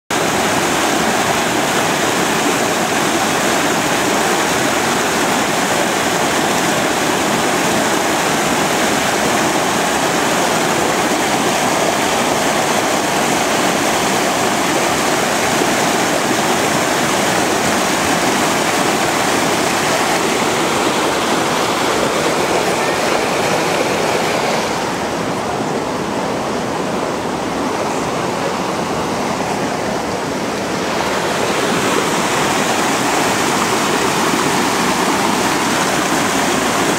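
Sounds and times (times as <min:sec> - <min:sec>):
water rushing over rocks: 0:00.1 - 0:36.9.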